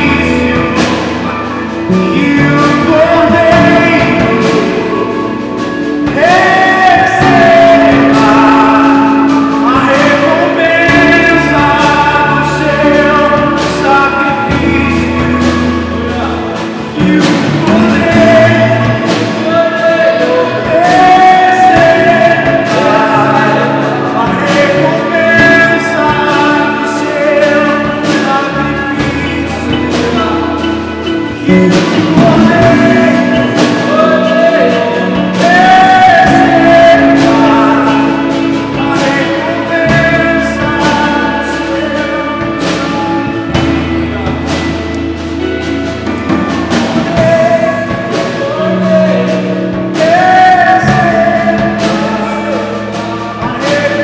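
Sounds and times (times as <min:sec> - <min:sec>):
singing with sliding notes: 0:00.0 - 0:54.0
worship band playing: 0:00.0 - 0:54.0.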